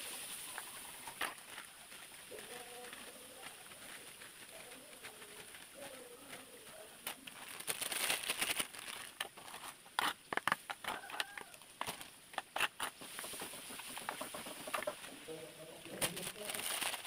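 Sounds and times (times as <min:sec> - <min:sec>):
plastic bags crinkling: 0:00.0 - 0:12.6, 0:15.8 - 0:17.0.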